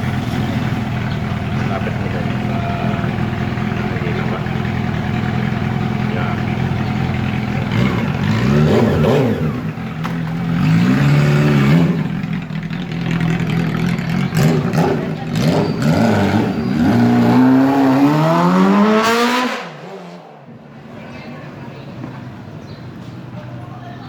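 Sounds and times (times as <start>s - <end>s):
motorcycle engine revving: 0.0s - 20.6s.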